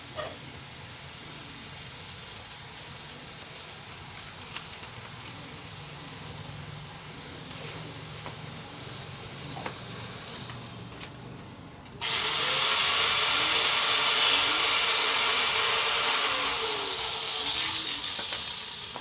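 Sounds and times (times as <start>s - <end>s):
arc welding crackling sizzle: 0.0s - 11.2s, 12.0s - 19.0s.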